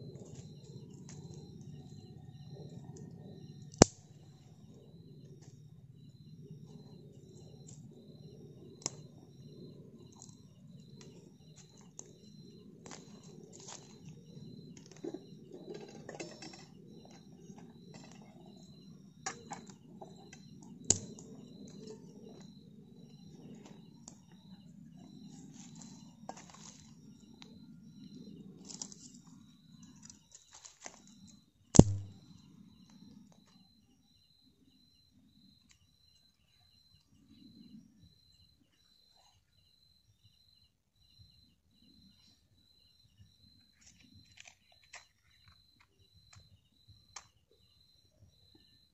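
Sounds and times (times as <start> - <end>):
insect chirping faintly: 0.0 - 48.9.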